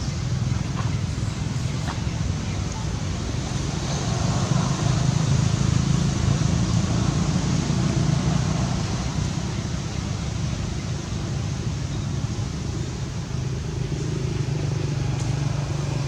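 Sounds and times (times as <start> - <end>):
low rumbling noise with hiss: 0.0 - 16.0.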